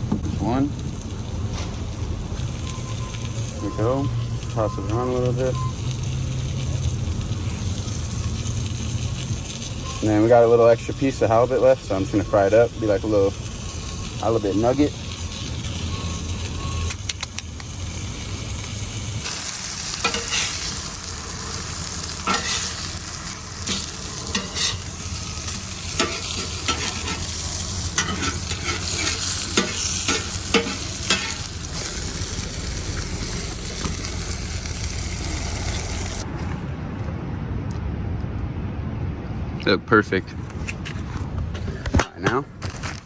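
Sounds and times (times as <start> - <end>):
batter deep-frying in oil: 0.0 - 36.3
oil popping and crackling: 0.0 - 36.3.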